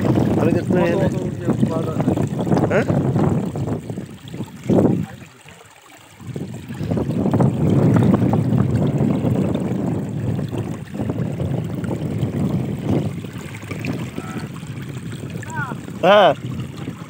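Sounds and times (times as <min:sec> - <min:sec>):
water rushing along channel: 0:00.0 - 0:17.0.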